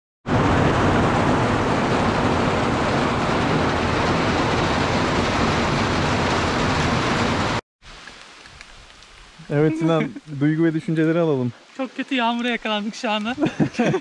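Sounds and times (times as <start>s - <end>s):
heavy rain on asphalt: 0.3s - 14.0s.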